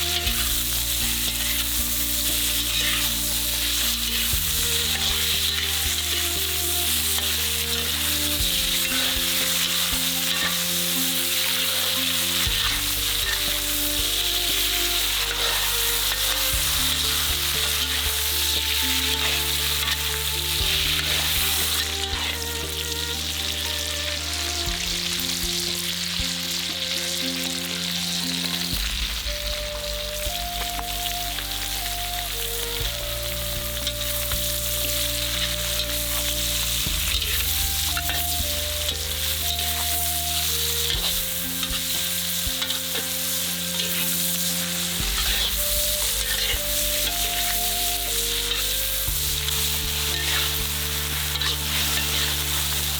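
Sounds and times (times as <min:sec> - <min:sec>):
food sizzling in a pan: 0:00.0 - 0:52.9
soft background music chords: 0:00.0 - 0:52.9.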